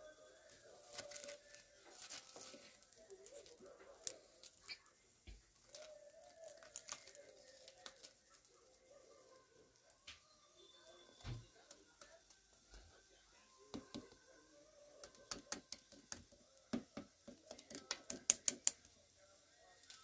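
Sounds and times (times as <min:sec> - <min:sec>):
pastry crust crackling: 0:00.1 - 0:20.0.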